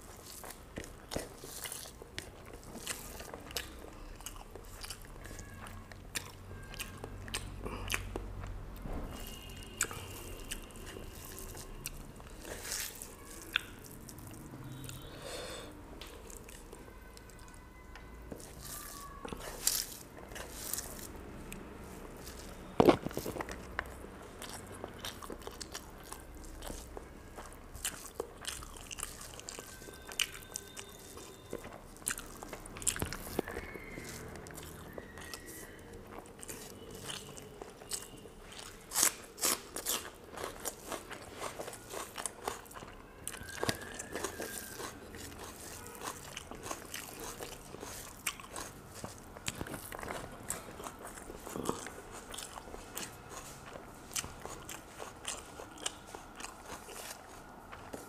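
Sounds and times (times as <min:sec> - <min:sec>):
chewing food: 0:00.0 - 0:15.2, 0:16.0 - 0:58.0.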